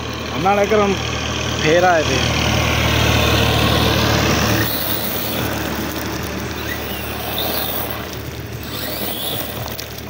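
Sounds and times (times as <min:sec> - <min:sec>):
tractor diesel engine running: 0:00.0 - 0:10.0
tyres spraying gravel: 0:01.6 - 0:10.0.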